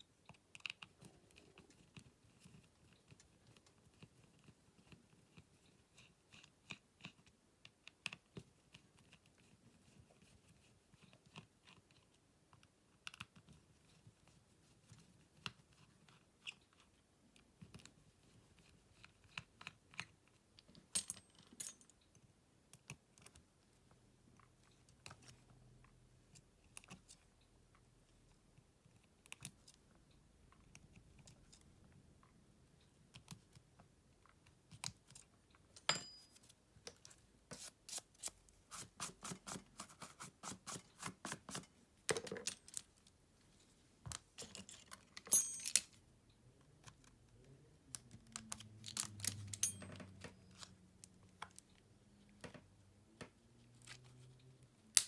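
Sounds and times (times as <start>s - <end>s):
faint room background: 0.0s - 55.0s.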